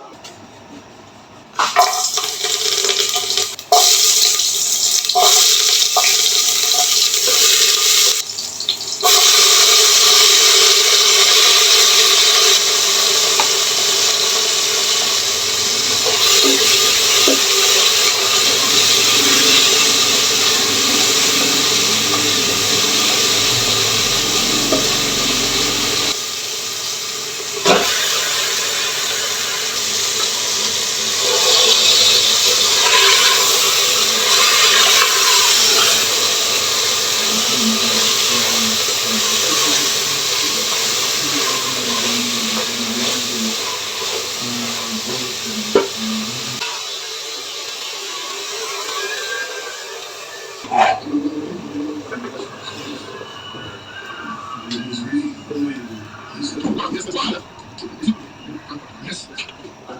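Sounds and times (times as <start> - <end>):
water running from a tap: 1.8 - 50.9.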